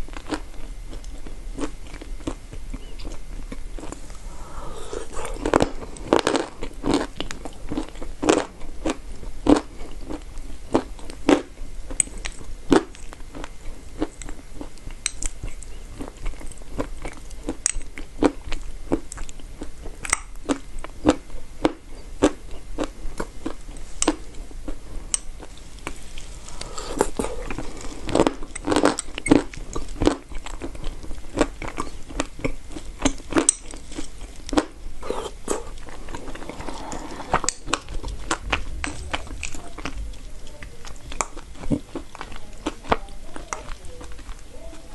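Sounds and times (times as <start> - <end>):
person chewing chalk crunches: 0.0 - 42.8.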